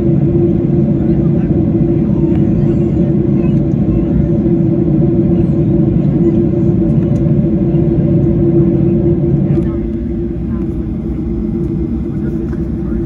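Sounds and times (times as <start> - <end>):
droning hum: 0.0 - 13.0
jet engine rumble in cabin: 0.0 - 13.0.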